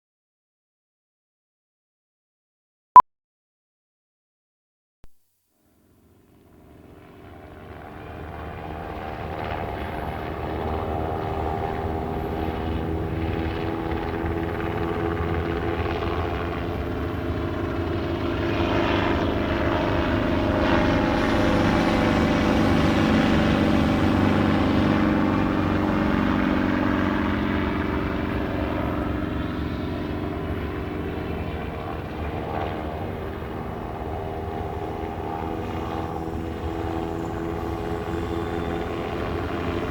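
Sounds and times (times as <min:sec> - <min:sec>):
helicopters circling overhead: 0:05.8 - 0:39.9.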